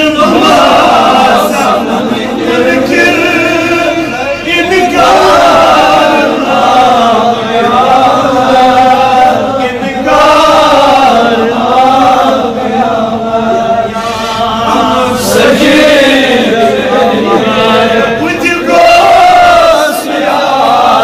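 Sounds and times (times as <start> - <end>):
man chanting devotional poem: 0.0 - 20.3.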